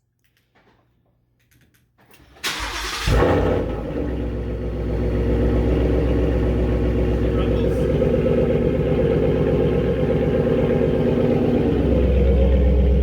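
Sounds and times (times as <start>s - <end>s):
car engine starting and idling: 2.3s - 13.0s.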